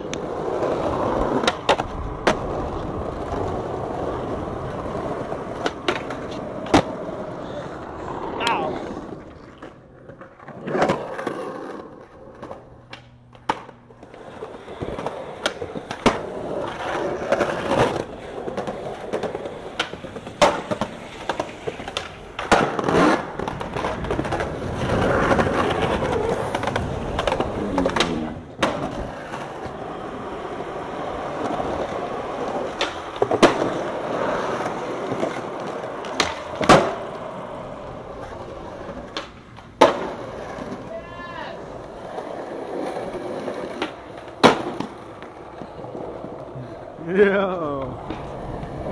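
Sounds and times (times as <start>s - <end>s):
skateboard slapping down: 0.0s - 48.9s
skateboard tail clacking: 0.0s - 48.9s
skateboard wheels rolling on concrete: 0.0s - 48.9s.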